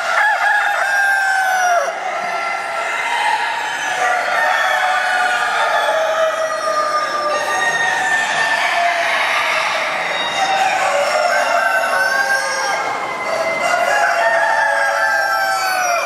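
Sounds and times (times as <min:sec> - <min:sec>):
hens clucking: 0:00.0 - 0:16.0
roosters crowing: 0:00.0 - 0:16.0.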